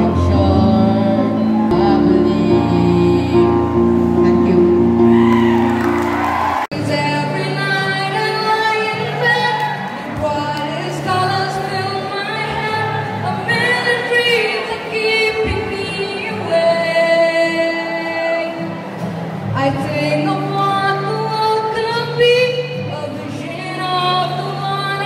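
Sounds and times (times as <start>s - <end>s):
woman singing: 0.0s - 5.3s, 6.7s - 18.7s, 19.5s - 25.0s.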